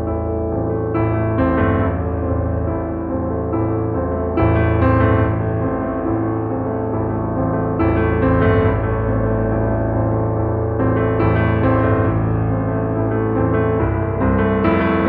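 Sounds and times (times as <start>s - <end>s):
piano chords over low bass: 0.0s - 15.0s.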